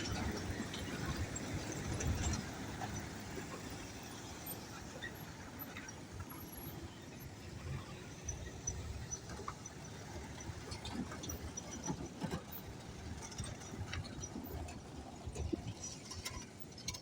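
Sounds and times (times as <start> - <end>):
faint road traffic rumble: 0.0 - 17.0.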